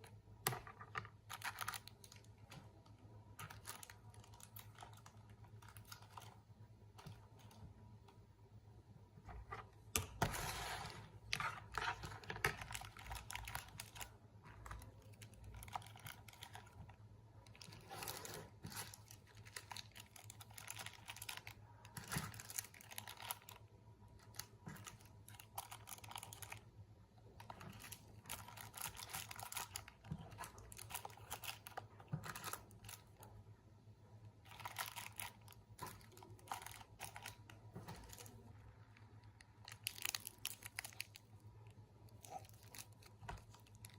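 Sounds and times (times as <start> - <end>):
faint low hum: 0.0 - 43.9.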